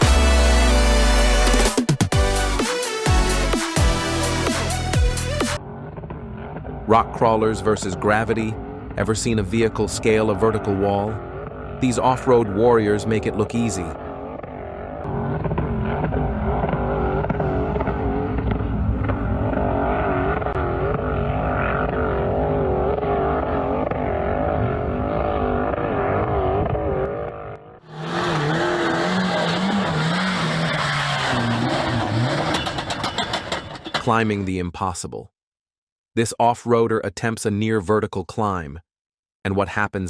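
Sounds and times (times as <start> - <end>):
off-road engines revving: 0.0 - 34.3.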